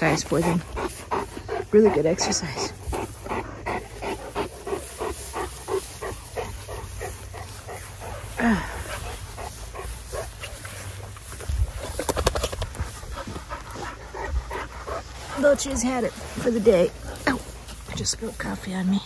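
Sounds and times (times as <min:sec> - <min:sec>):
dogs panting hard: 0:00.0 - 0:18.5.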